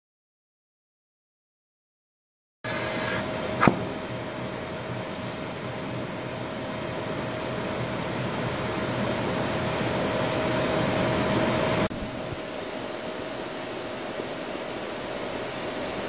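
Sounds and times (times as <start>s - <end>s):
machine hum: 2.7s - 16.0s.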